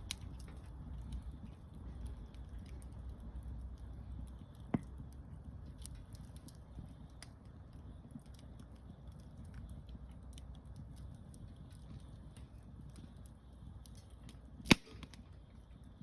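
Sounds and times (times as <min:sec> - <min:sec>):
campfire wood crackling: 0:00.0 - 0:16.0
low steady rumble: 0:00.0 - 0:16.0.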